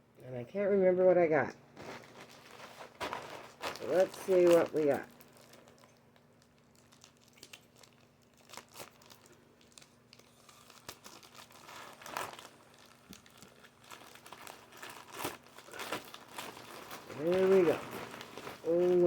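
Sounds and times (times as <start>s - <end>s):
packaging crinkling and tearing: 1.8s - 19.0s.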